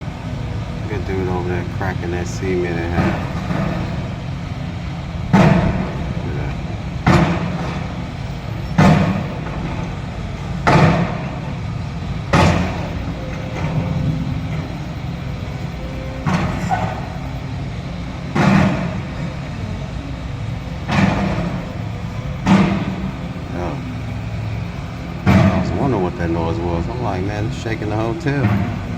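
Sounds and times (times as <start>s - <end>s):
machine engine running: 0.0s - 28.9s.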